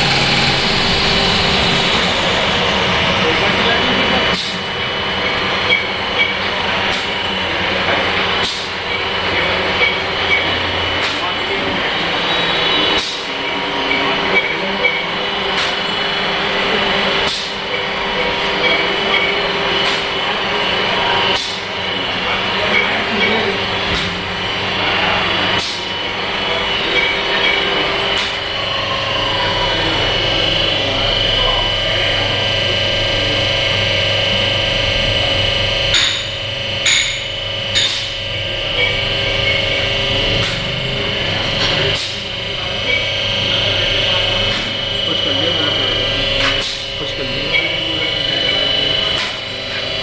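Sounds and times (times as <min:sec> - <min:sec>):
high whine: 0:00.0 - 0:50.0
lathe running noise: 0:00.0 - 0:50.0.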